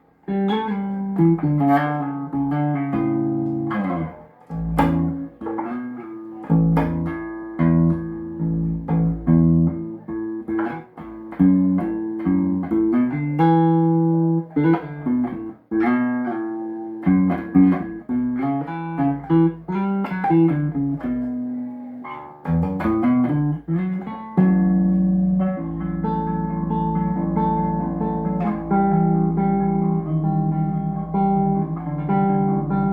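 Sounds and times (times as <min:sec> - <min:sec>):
plucked electric bass notes: 0:00.3 - 0:32.9.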